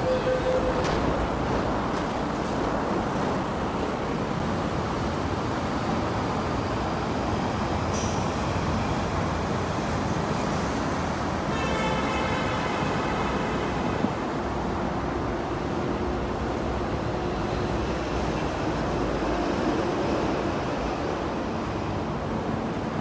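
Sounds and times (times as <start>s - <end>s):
high train whine: 0.0s - 23.0s.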